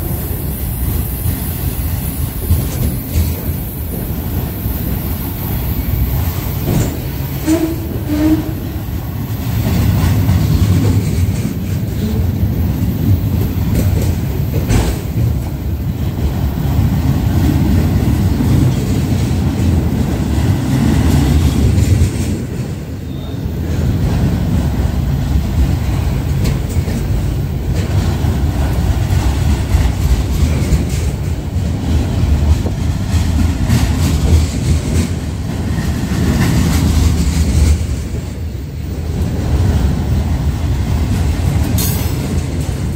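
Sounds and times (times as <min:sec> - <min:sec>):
freight cars rumbling on rails: 0:00.0 - 0:42.9
train wheels clicking: 0:00.0 - 0:42.9.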